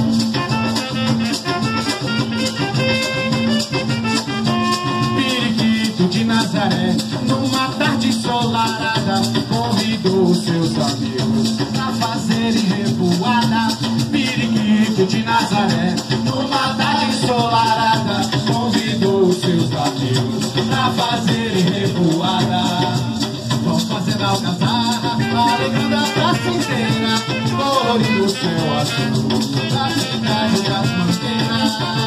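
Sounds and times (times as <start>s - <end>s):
drums: 0.0s - 32.0s
shaken rattle: 0.0s - 32.0s.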